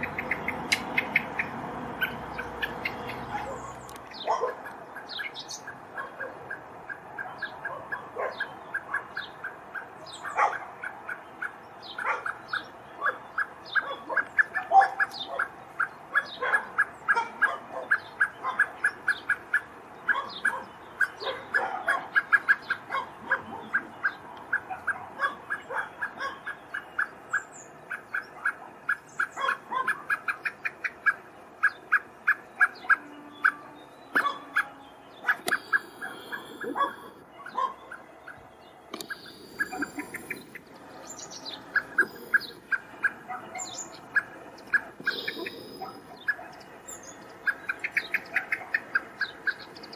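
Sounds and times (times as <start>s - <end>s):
blackbird alarm calls: 0.0s - 49.9s.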